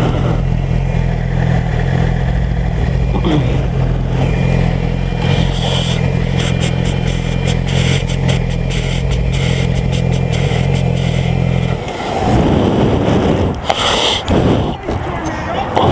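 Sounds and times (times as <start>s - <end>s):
motorcycle engine running: 0.0s - 13.7s.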